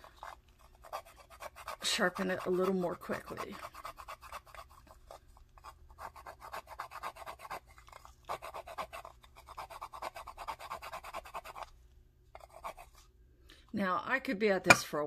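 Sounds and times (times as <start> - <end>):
pastel stick rasping on grater: 0.0 - 11.7, 12.4 - 13.0.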